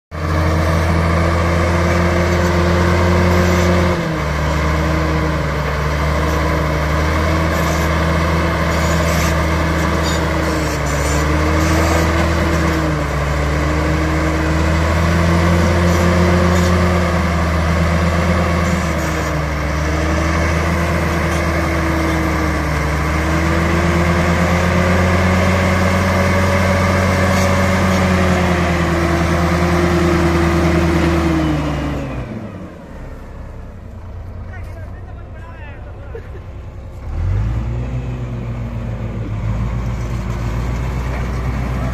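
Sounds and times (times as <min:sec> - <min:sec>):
bulldozer diesel engine: 0:00.1 - 0:41.9.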